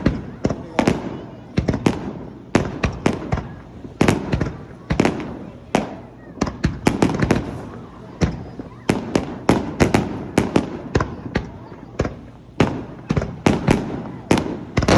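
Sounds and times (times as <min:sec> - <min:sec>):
fireworks bursting: 0:00.0 - 0:14.9.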